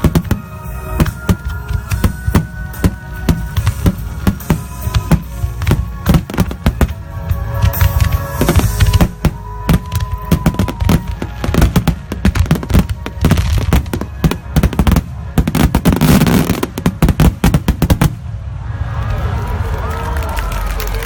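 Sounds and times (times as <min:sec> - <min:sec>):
fireworks shells bursting: 0:00.0 - 0:18.1.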